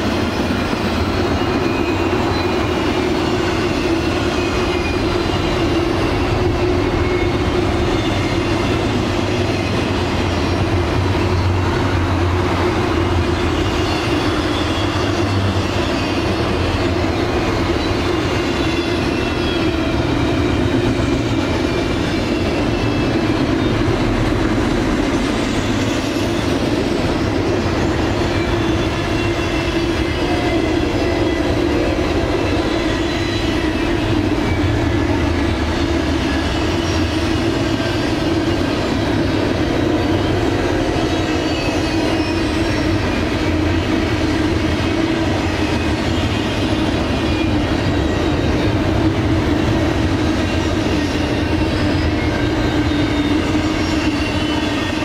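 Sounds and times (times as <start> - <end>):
high wheel squeals: 0.0 - 55.0
train wheels rumbling on rail: 0.0 - 55.0.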